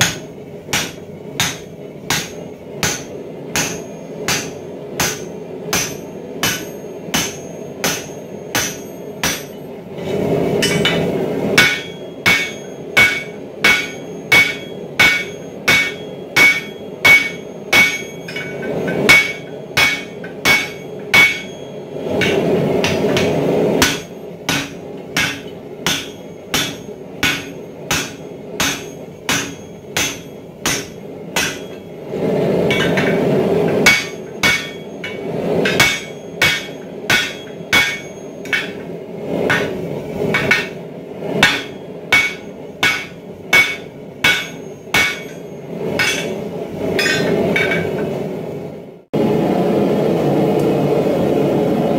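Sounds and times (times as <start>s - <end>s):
hammer striking hot steel: 0.0s - 48.2s
steady rushing noise: 0.0s - 51.9s.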